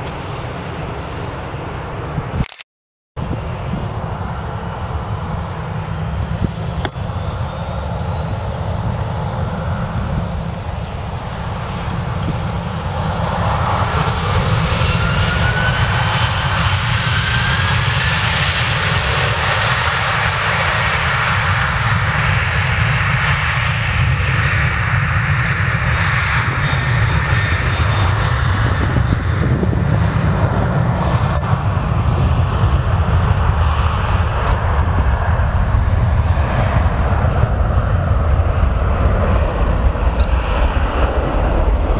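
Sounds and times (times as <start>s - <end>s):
jet engine whine: 0.0s - 2.6s, 3.2s - 41.9s
loud jet engine roar: 0.0s - 2.6s, 3.2s - 41.9s.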